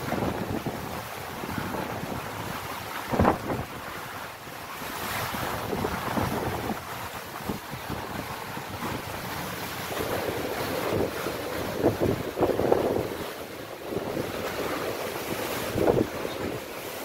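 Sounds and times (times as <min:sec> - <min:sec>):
gusty wind buffeting microphone: 0:00.0 - 0:16.7
water slapping against quay: 0:00.0 - 0:17.0.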